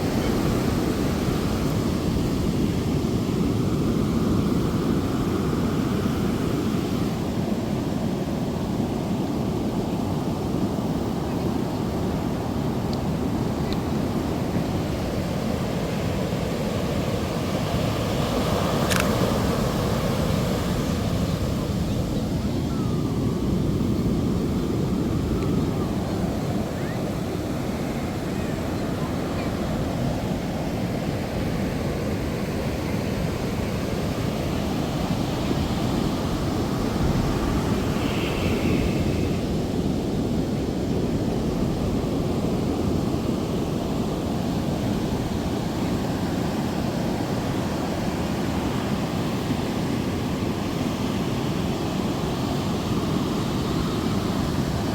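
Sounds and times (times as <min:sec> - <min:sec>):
ocean surf on beach: 0:00.0 - 0:54.9
wind on microphone: 0:00.0 - 0:54.9.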